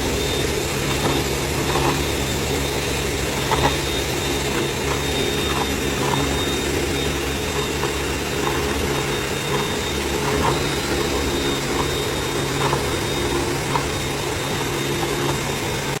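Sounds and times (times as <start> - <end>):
electric drill whine: 0.0 - 16.0.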